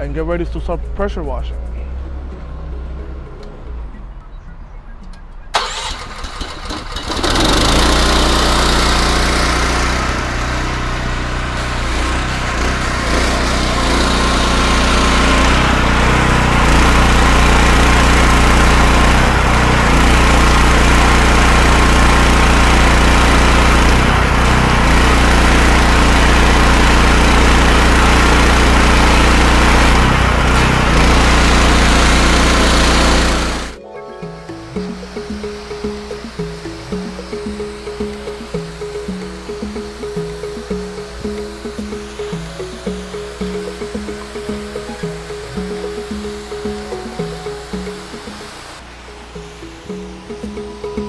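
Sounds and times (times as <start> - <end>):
pressure washer engine: 5.6 - 33.8, 34.8 - 51.0.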